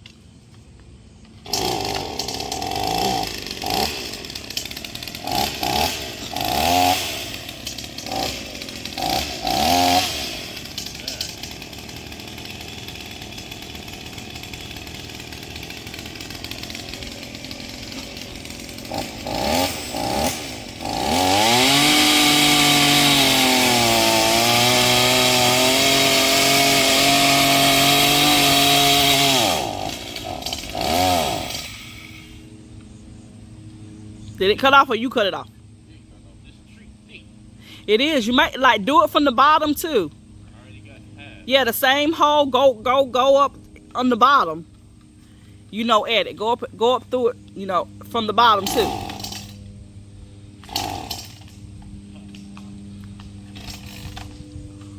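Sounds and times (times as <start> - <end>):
chainsaw revving and cutting: 1.3 - 32.7, 33.7 - 35.5, 37.5 - 40.1, 40.8 - 54.9.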